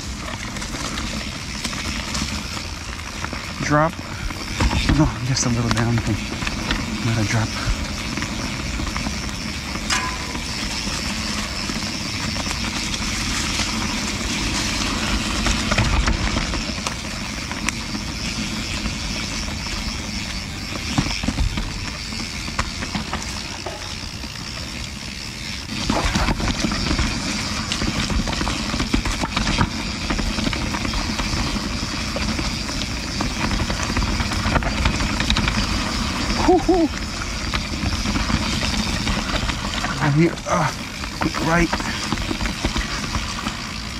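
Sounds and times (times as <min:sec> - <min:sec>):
bike chain and frame rattling: 0:00.0 - 0:43.9
bike tyres rolling over rocks: 0:00.0 - 0:43.9.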